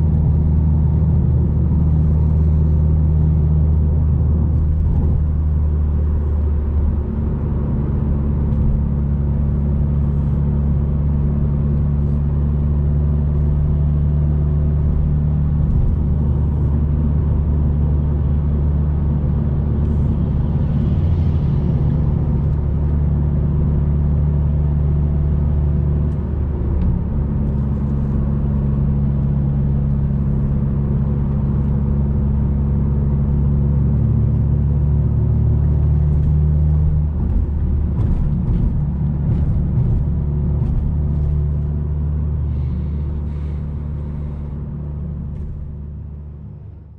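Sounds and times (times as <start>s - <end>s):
car engine drone from inside: 0.0s - 46.9s.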